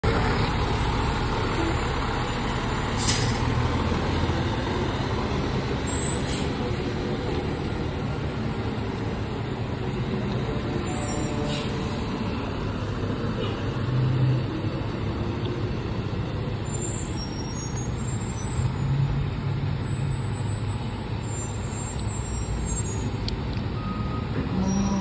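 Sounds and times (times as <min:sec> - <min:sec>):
fire truck diesel engines rumbling: 0:00.0 - 0:25.0.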